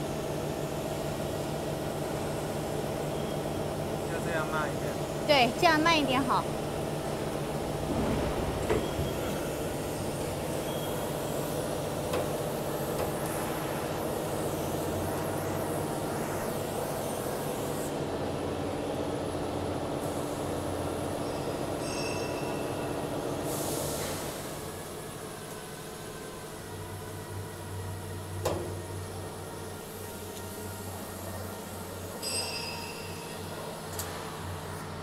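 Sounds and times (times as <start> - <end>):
roll forming machine drone: 0.0 - 35.0.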